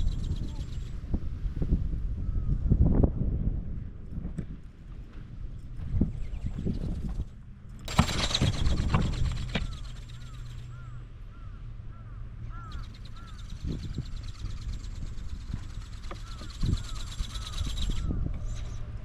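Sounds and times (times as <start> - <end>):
buzzing electric motor and wings: 0.0 - 2.0, 4.2 - 19.0
wind rumbling on microphone: 0.0 - 19.0.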